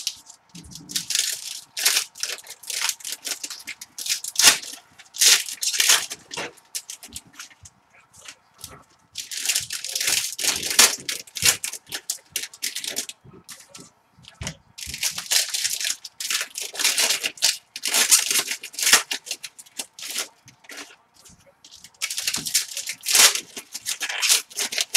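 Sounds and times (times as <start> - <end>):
plastic wrappers crinkling and tearing: 0.0 - 24.9.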